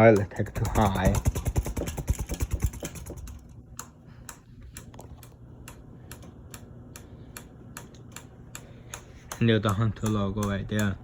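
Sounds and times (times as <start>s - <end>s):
ceiling fan motor hum: 0.0s - 11.0s
regular ticking of fan: 0.0s - 11.0s.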